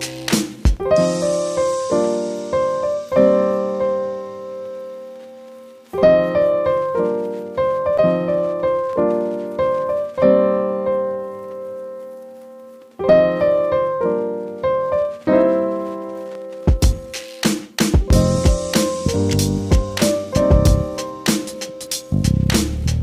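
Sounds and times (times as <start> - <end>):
piano chords: 0.0 - 23.0.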